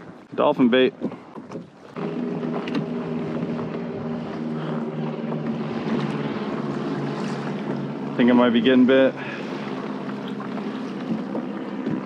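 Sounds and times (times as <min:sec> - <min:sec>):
boat motor running: 0:00.6 - 0:12.0.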